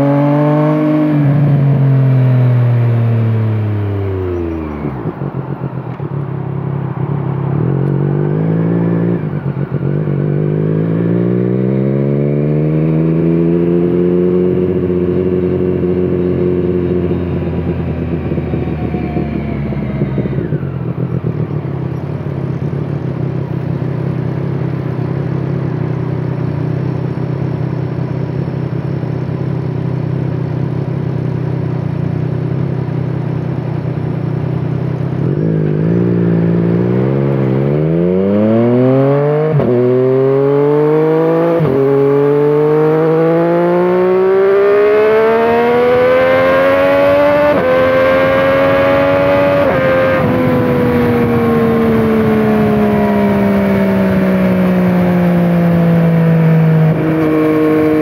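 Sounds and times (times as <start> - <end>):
motorcycle engine revving and crackling: 0.0 - 58.0.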